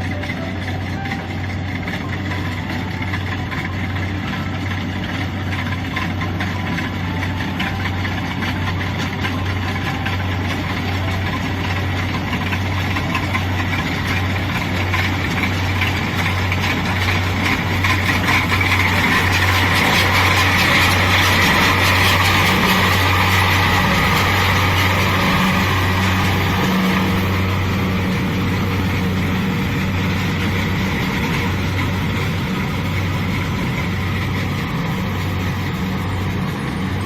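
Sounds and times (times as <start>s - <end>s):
diesel engine running under load: 0.0s - 37.0s
harvesting machinery clatter: 0.0s - 37.0s.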